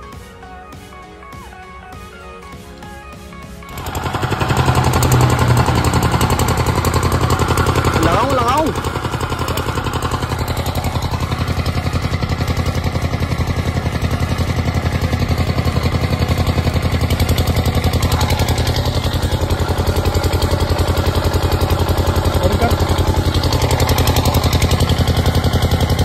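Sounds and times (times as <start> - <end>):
diesel generator engine running: 0.0 - 26.0.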